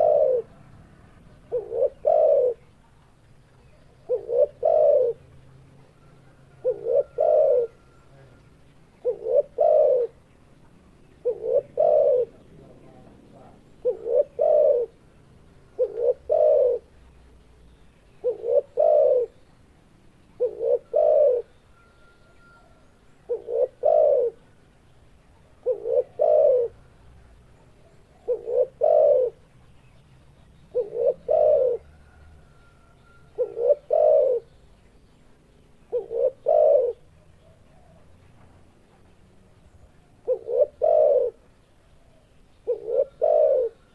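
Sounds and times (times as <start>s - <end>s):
dove cooing: 0.0s - 10.4s, 11.0s - 17.0s, 18.2s - 19.5s, 20.3s - 24.7s, 25.3s - 27.0s, 27.6s - 29.5s, 30.7s - 34.5s, 35.8s - 38.2s, 40.0s - 43.9s.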